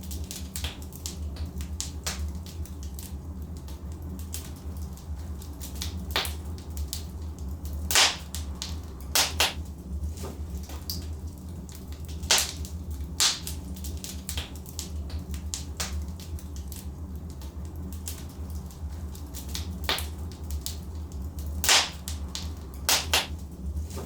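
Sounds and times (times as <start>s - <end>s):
logs crackling in fireplace: 0.0s - 24.0s
low rumble of flames: 0.0s - 24.0s.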